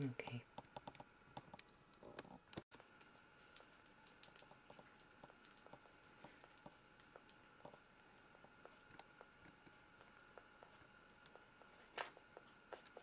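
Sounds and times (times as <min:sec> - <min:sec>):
squirrel eating clicks: 0:00.7 - 0:13.0.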